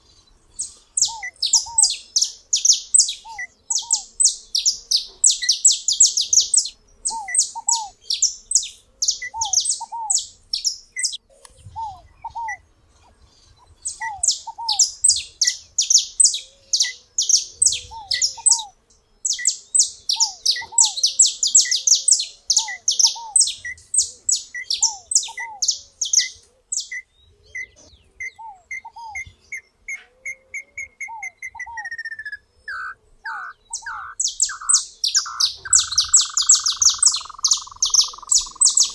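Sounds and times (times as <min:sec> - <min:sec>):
songbirds trilling: 0:00.0 - 0:38.9
low bird call: 0:00.6 - 0:13.2, 0:13.8 - 0:38.9.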